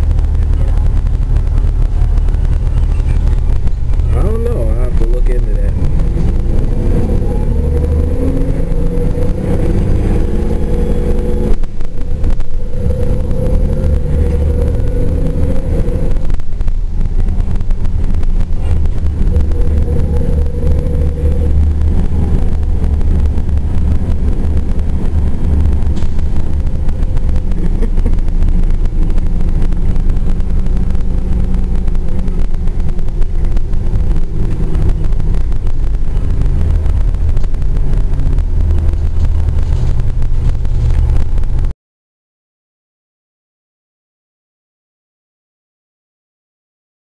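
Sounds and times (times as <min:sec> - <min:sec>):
bus engine and drivetrain: 0:00.0 - 0:41.7
road rumble: 0:00.0 - 0:41.8.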